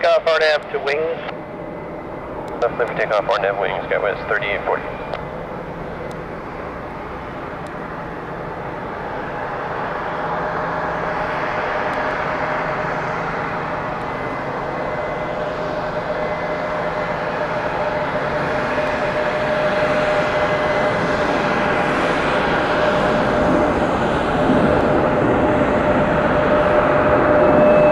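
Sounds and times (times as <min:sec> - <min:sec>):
jet engines roaring with whine: 0:00.0 - 0:27.9.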